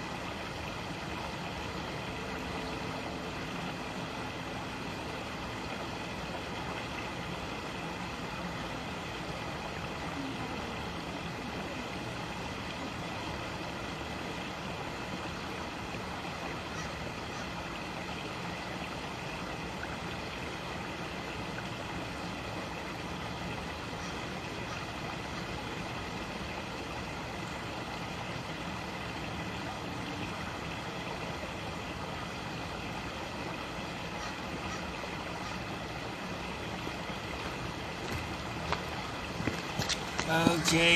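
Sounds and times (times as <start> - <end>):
creek water rushing over rocks: 0.0 - 40.9.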